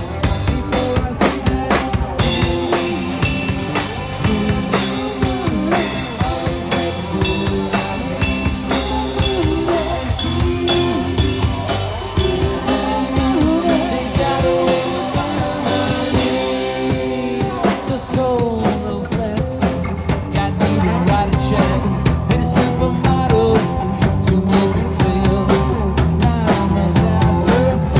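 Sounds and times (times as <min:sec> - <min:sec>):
drum kit beat: 0:00.0 - 0:27.9
electric guitar: 0:00.0 - 0:27.9.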